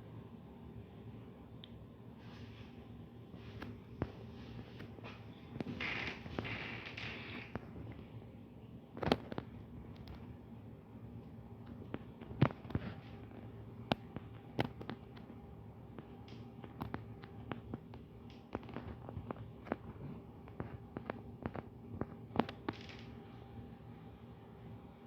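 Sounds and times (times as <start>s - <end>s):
computer hum: 0.0s - 25.0s.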